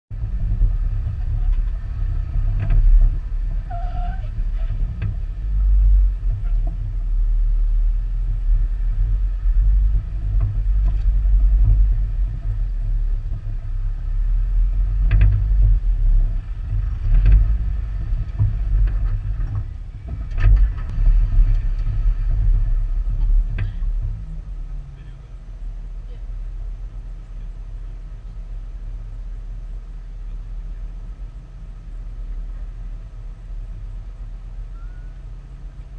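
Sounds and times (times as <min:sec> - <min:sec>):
vehicle engine low rumble: 0:00.0 - 0:35.9.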